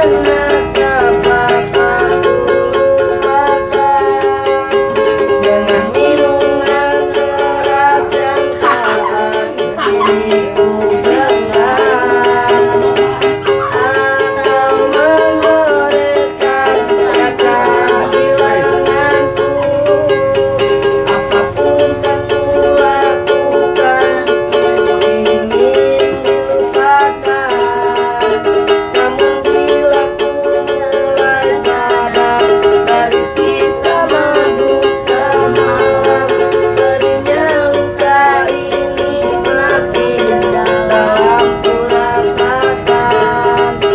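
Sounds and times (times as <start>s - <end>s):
person singing: 0.0s - 43.9s
ukulele strumming: 0.0s - 43.9s.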